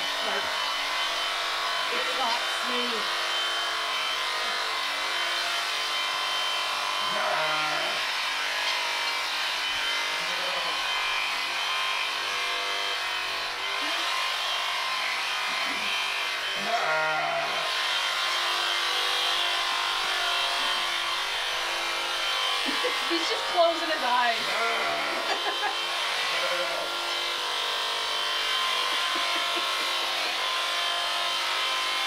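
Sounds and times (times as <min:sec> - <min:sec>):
electric shears buzzing: 0:00.0 - 0:32.0.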